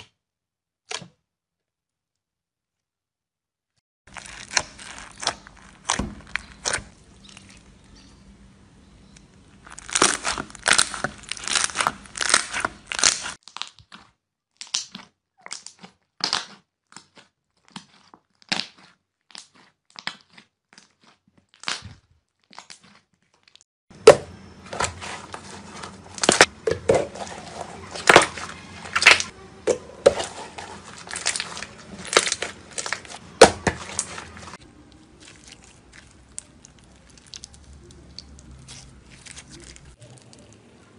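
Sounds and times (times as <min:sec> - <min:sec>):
slime popping and squelching: 0:04.1 - 0:08.0, 0:09.2 - 0:40.7.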